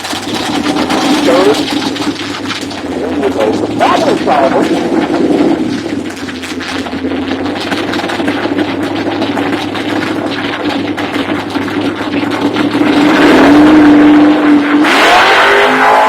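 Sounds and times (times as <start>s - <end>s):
racing car engine idling and revving: 0.0s - 16.0s.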